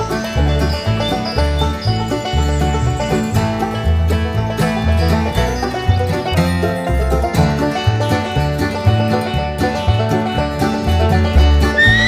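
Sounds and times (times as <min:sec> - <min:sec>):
upbeat country tune with banjo: 0:00.0 - 0:12.0.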